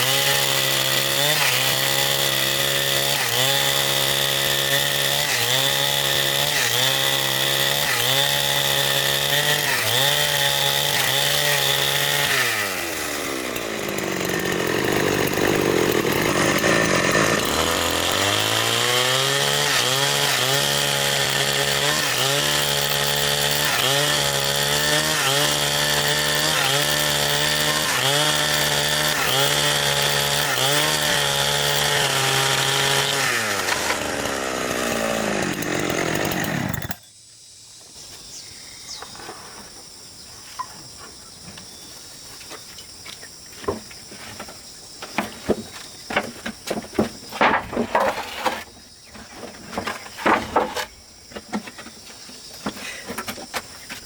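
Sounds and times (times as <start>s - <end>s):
chainsaw cutting wood: 0.0s - 37.1s, 42.9s - 54.0s.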